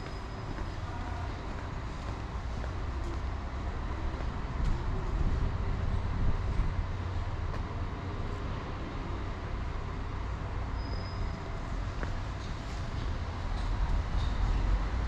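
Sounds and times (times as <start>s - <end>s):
street noise rumble: 0.0s - 15.0s.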